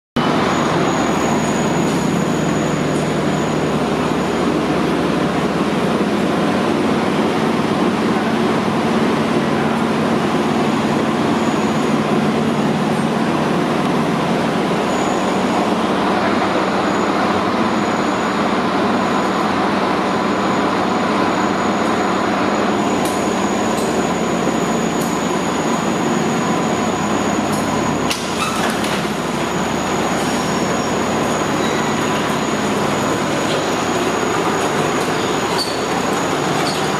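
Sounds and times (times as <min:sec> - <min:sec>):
diesel engine idling: 0:00.2 - 0:36.9.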